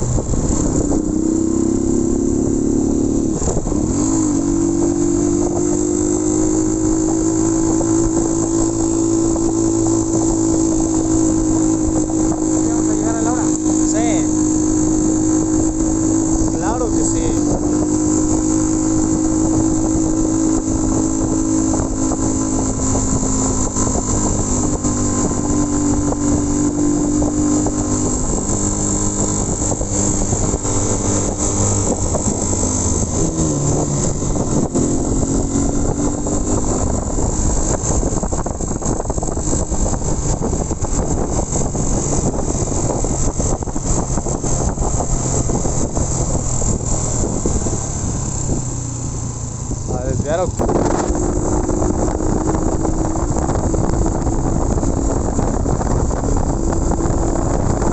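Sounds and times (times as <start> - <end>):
motorcycle engine running: 0.0 - 57.9
wind rushing: 0.0 - 57.9.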